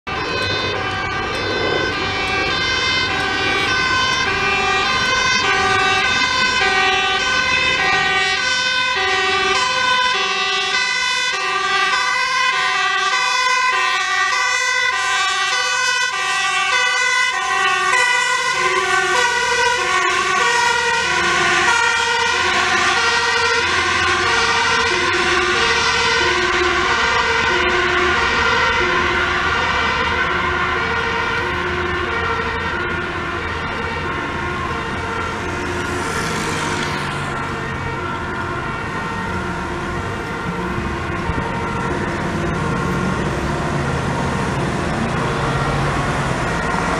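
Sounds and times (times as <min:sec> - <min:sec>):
truck engine and tyre noise: 0:00.0 - 0:46.9
two-tone sirens: 0:00.0 - 0:46.9.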